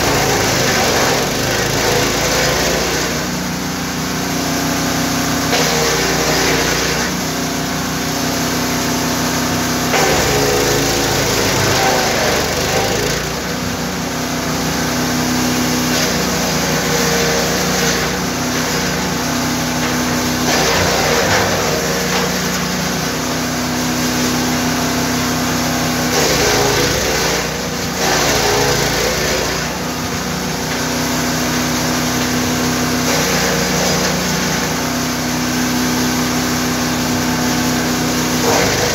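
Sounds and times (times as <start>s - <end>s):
wood chipper engine running: 0.0s - 38.9s
wood shredding: 0.0s - 38.9s.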